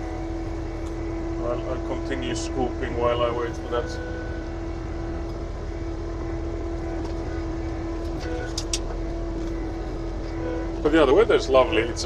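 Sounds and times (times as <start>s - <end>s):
bulldozer engine rumbling: 0.0s - 12.0s.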